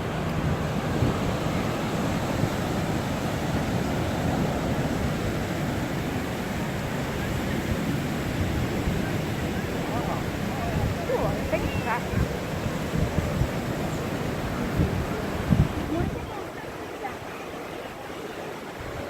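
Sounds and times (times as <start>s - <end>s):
ocean surf: 0.0s - 19.0s
wind: 0.0s - 19.0s.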